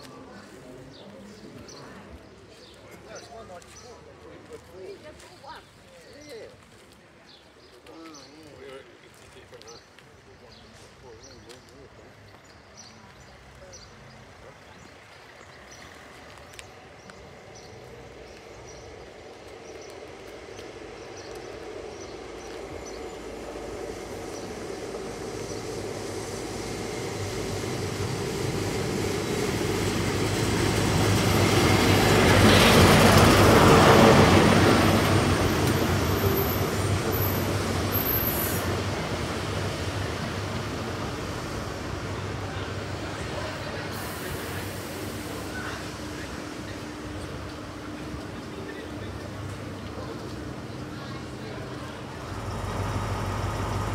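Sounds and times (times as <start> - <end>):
diesel train passing: 0.0 - 53.9.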